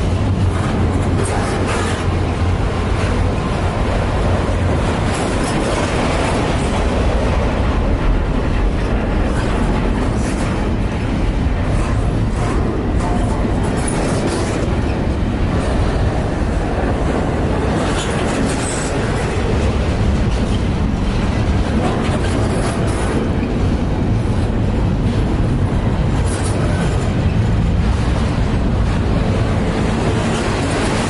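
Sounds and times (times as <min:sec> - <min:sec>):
freight train wheels rumbling on rail: 0:00.0 - 0:31.0
train clicks and clanks: 0:00.0 - 0:31.0.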